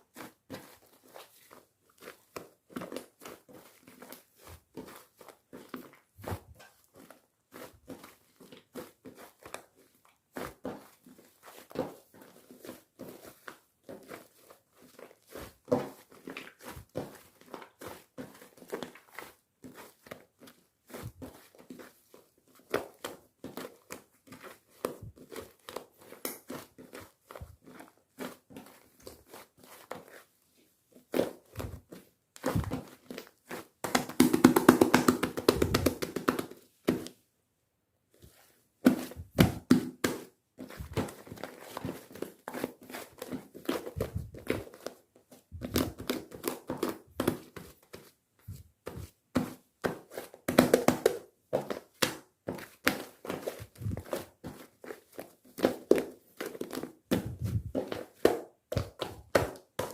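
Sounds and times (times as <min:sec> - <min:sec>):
slime squishing by hand: 0:00.0 - 0:37.2, 0:38.1 - 0:59.9.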